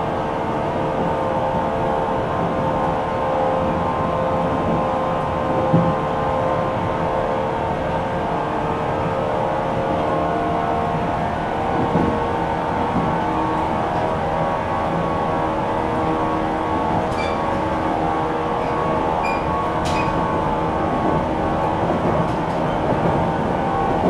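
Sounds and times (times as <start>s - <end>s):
low train rumble: 0.0s - 24.0s
train hum of fixed tones: 0.0s - 24.0s.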